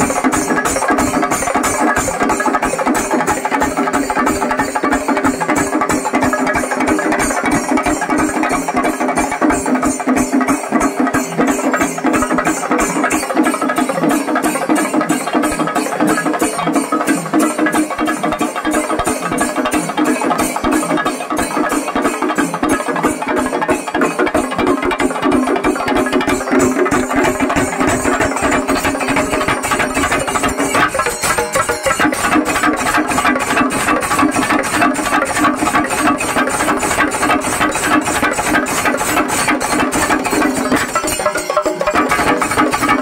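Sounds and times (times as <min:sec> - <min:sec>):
drum and cymbal strokes: 0:00.0 - 0:43.0.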